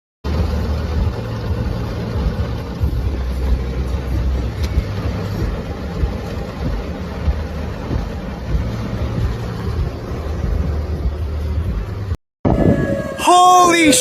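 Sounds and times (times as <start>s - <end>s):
storm wind buffeting microphone: 0.3s - 13.2s.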